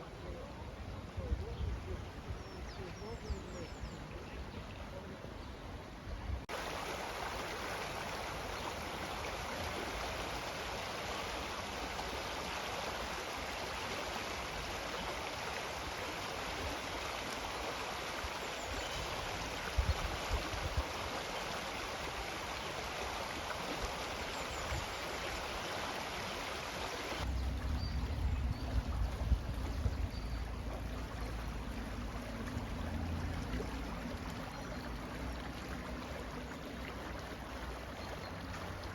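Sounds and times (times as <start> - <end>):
stream water rushing: 6.4 - 38.9.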